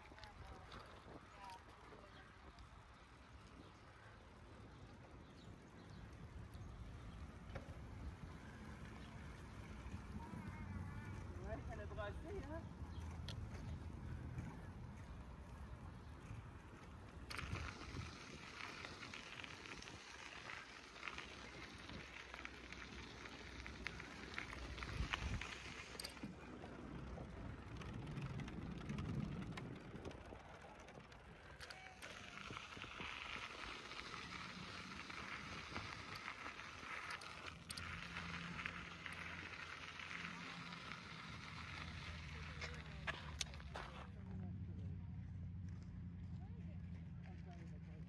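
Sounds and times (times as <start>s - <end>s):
bicycle rolling on pavement: 0.0s - 48.0s.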